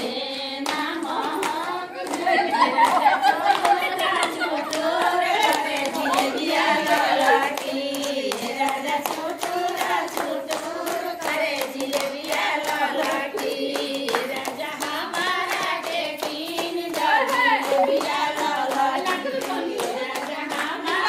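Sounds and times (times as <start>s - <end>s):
rhythmic clapping: 0.0s - 21.0s
women singing together: 0.0s - 21.0s.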